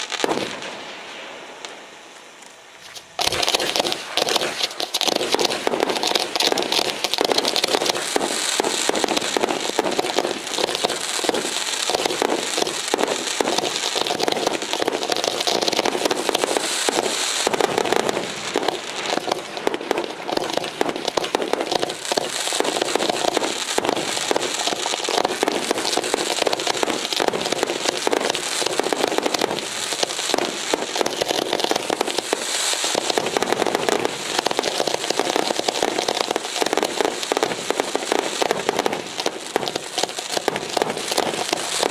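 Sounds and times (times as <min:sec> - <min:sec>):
fireworks crackling and popping: 0:00.0 - 0:41.9.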